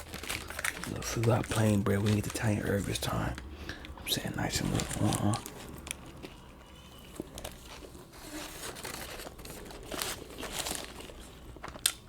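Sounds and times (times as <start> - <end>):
food wrapping crinkling: 0.0 - 12.0.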